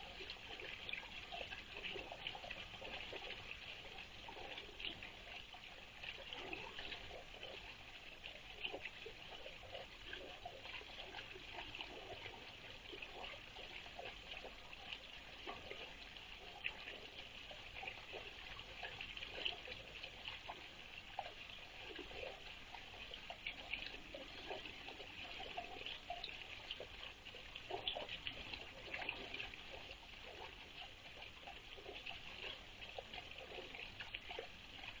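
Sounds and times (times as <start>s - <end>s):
constant high hiss: 0.0s - 35.0s
water trickling into pond: 0.0s - 35.0s.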